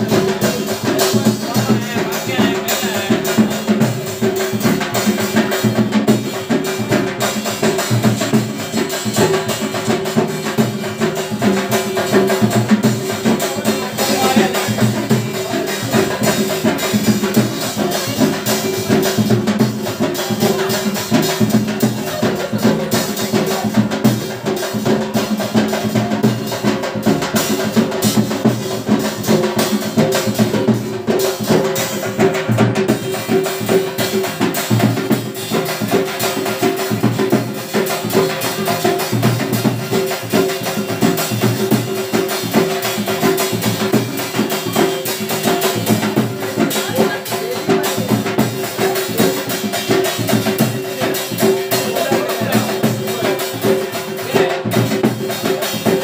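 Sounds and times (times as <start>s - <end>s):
driving drum beat: 0.0s - 56.0s.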